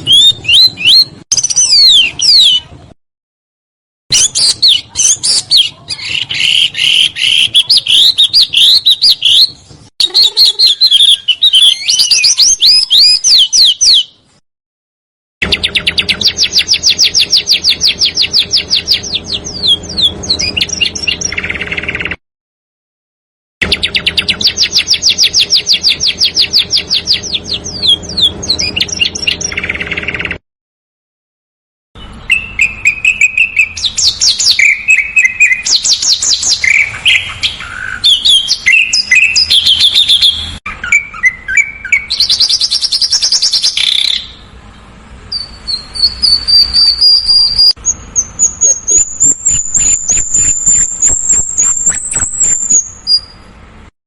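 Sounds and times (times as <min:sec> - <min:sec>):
songbird chirping and trilling: 0:00.0 - 0:02.8, 0:04.1 - 0:14.4, 0:15.4 - 0:22.2, 0:23.6 - 0:30.4, 0:32.0 - 0:53.5.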